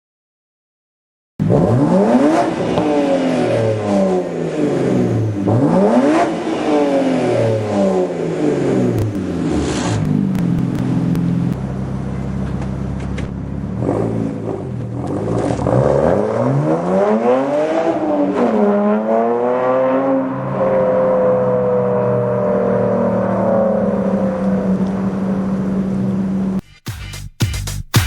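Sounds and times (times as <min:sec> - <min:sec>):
car engine accelerating: 0:01.4 - 0:26.6.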